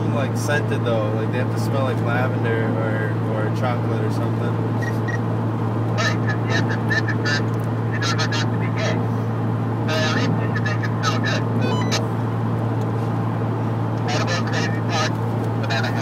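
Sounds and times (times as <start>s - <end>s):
car cruising drone from cabin: 0.0s - 16.0s.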